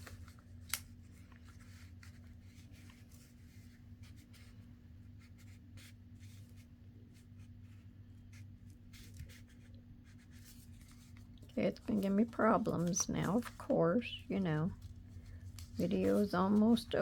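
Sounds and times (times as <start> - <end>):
low steady hum: 0.0 - 17.0
paper rustling and scraping: 0.0 - 17.0.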